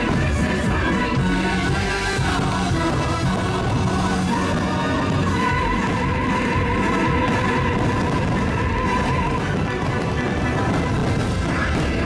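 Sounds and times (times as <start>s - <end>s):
orchestral music: 0.0s - 12.0s.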